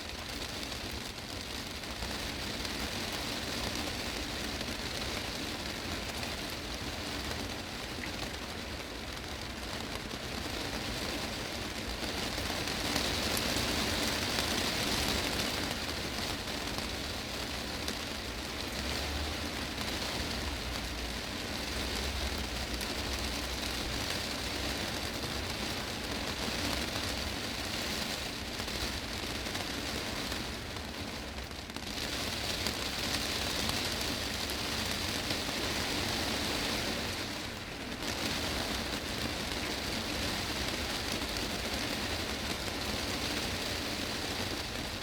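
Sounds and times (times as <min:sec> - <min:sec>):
heavy rain on glass roof: 0:00.0 - 0:45.0.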